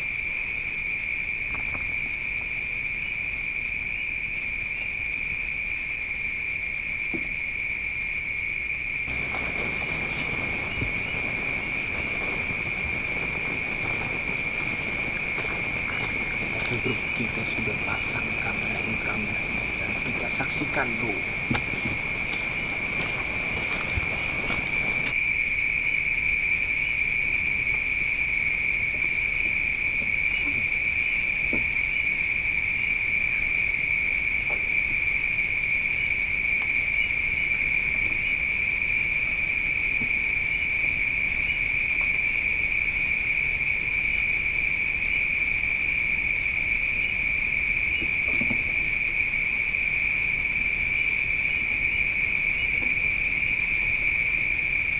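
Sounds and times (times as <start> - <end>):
night insects chirring: 0.0 - 54.9.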